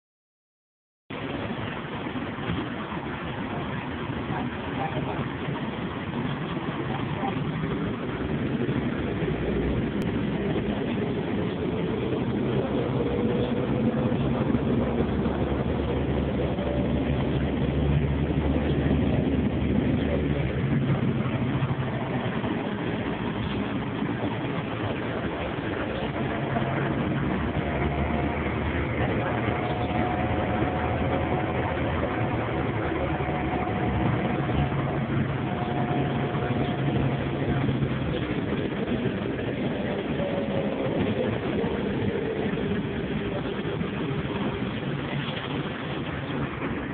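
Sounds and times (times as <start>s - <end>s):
faint steady whine: 1.1s - 46.9s
subway train rumble and rattle: 1.1s - 46.9s.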